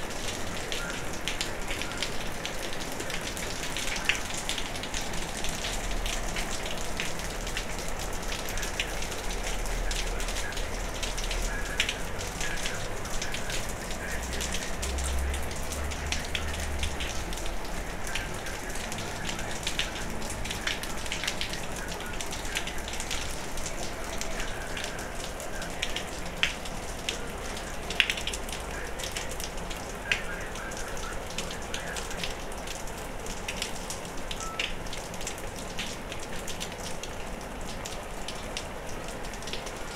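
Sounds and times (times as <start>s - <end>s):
heavy rain falling: 0.0s - 39.9s
raindrops tapping on surfaces: 0.0s - 39.9s.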